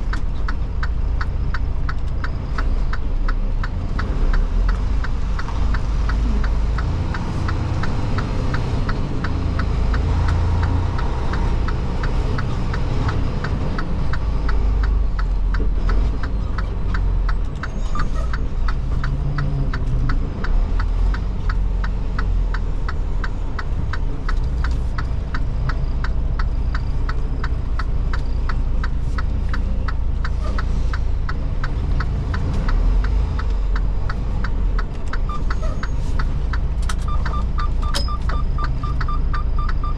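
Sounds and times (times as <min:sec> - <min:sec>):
truck engine and road rumble: 0:00.0 - 0:39.9
turn signal ticking: 0:00.0 - 0:39.9.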